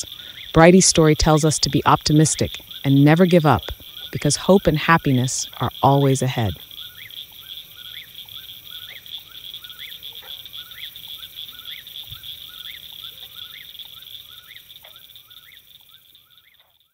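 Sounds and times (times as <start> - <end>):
high insect chorus: 0.0 - 16.9.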